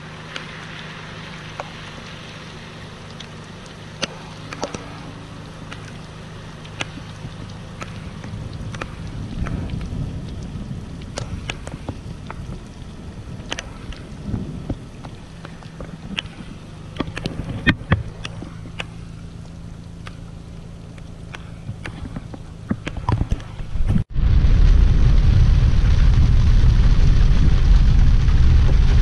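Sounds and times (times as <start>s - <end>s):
heavy rain on road: 0.0s - 29.0s
raindrops tapping: 0.0s - 29.0s
vehicle engine hum: 0.0s - 29.0s.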